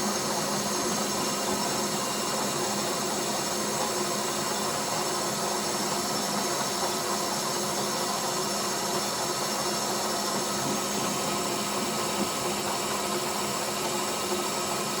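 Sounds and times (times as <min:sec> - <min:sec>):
machine tool motor running: 0:00.0 - 0:15.0.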